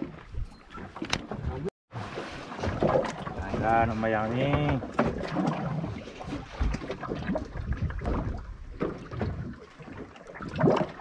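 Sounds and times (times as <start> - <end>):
boat engine rumble: 0.0 - 11.0
water noise: 0.0 - 11.0.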